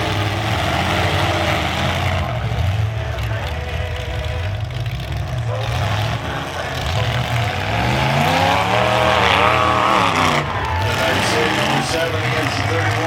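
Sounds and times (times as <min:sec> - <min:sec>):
car engine revving up: 0:00.0 - 0:13.0
car engines running: 0:00.0 - 0:13.0.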